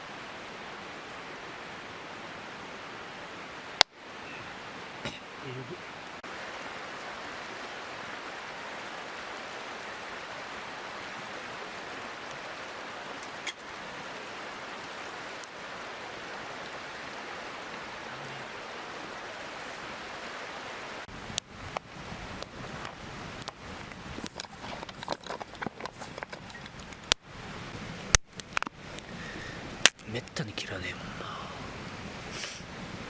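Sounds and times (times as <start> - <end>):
stream flowing: 0.0 - 33.0.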